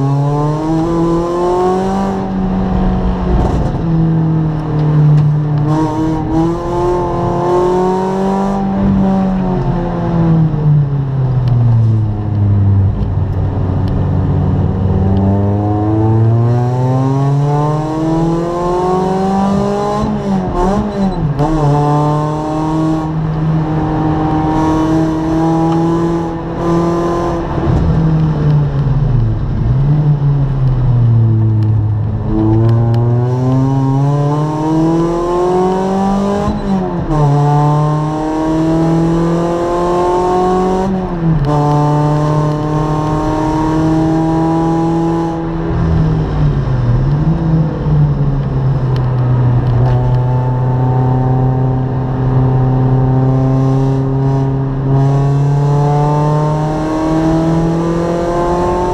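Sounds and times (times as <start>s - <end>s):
racing car engine revving: 0.0s - 58.9s.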